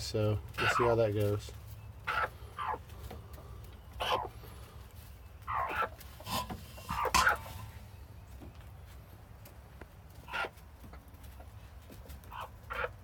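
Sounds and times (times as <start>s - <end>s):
hens making raspy sounds: 0.0s - 8.1s, 8.9s - 13.0s.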